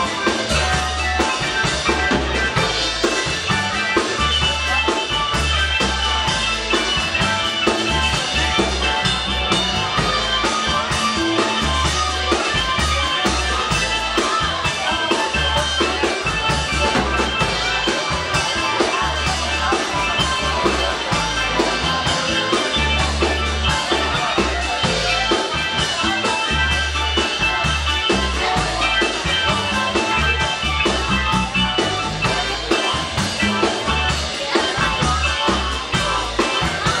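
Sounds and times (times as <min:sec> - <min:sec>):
bass line: 0:00.0 - 0:37.0
drum kit beat: 0:00.0 - 0:37.0.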